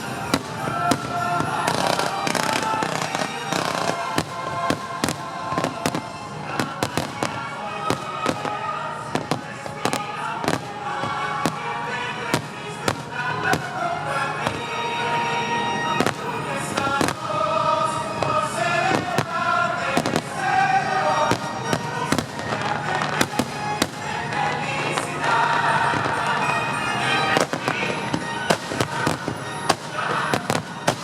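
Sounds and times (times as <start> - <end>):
fireworks bangs: 0.0 - 31.0
loud concert music: 0.0 - 31.0.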